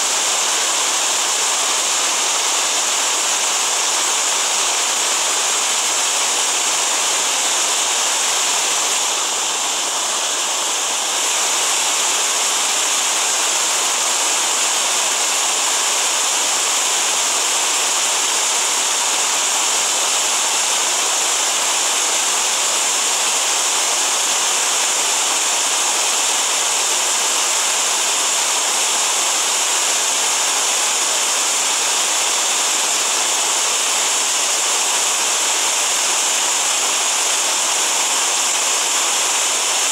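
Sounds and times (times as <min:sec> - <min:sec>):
creek rushing over boulders: 0:00.0 - 0:39.9.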